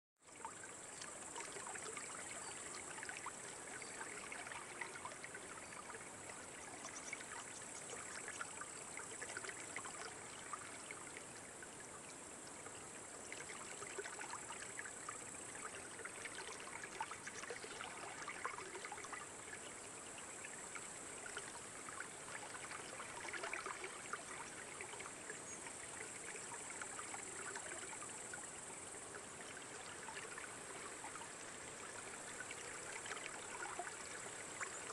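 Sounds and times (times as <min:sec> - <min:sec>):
running water trickling: 0:00.2 - 0:34.9.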